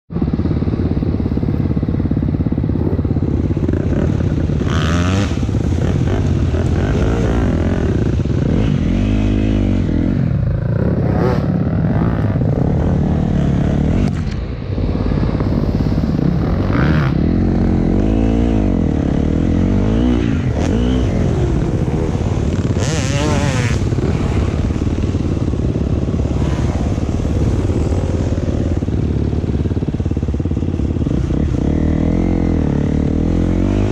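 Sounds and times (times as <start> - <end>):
vehicle engine revving: 2.8 - 33.9.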